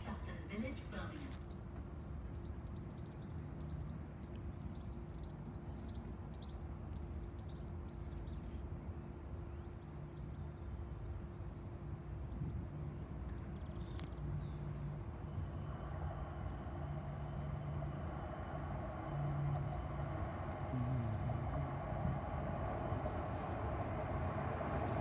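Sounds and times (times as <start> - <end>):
faint birds chirping: 0.0 - 25.0
tram running rumble: 0.0 - 25.0.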